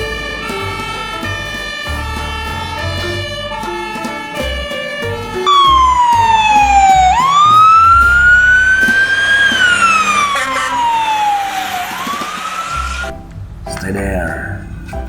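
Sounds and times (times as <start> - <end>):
fire engine siren wailing: 0.0 - 13.3.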